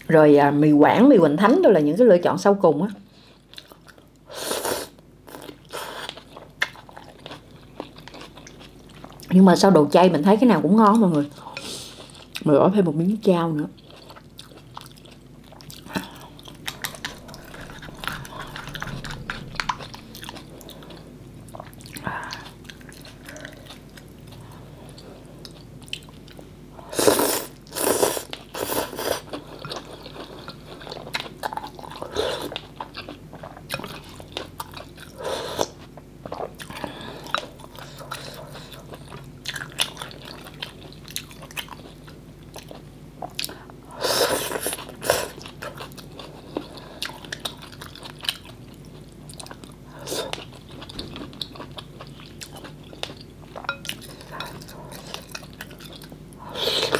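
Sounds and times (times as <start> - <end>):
person chewing noodles: 3.4 - 9.3, 13.8 - 56.9.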